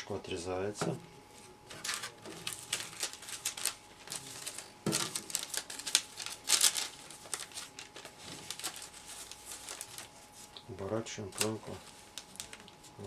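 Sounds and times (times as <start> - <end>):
plastic film crinkling: 1.7 - 13.0.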